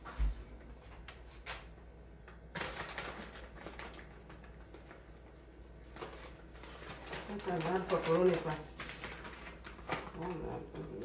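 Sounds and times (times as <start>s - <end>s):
packaging rustling and crackling: 0.8s - 11.0s.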